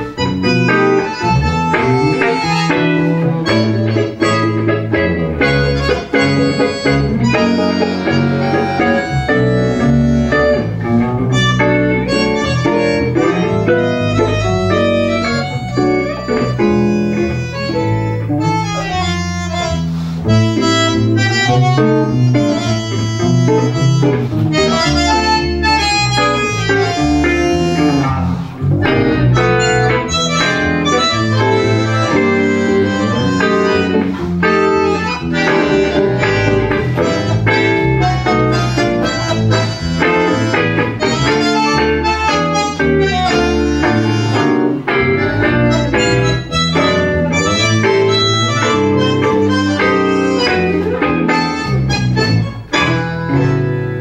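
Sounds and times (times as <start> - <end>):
bandoneon melody: 0.0 - 54.0
electric bass: 0.0 - 54.0
guitar: 0.0 - 54.0.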